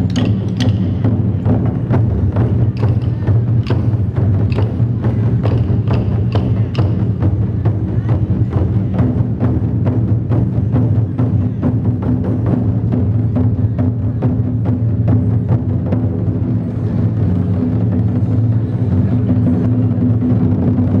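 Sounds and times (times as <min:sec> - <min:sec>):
large drums beaten in rhythm: 0:00.0 - 0:21.0.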